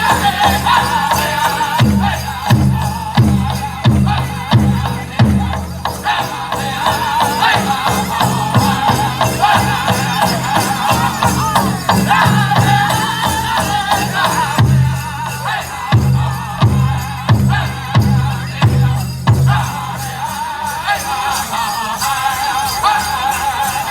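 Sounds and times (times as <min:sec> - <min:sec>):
big drum beat: 0:00.0 - 0:20.0
group singing in high voices: 0:00.0 - 0:23.9
jingling bells: 0:00.0 - 0:23.9.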